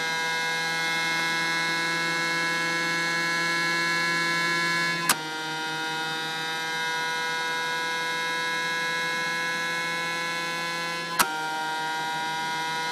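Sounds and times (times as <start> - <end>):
electric motor hum with whine: 0.0 - 12.9.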